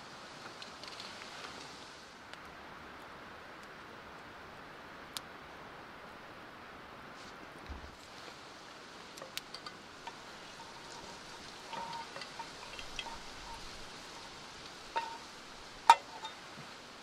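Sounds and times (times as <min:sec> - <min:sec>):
steady faint hiss: 0:00.0 - 0:17.0.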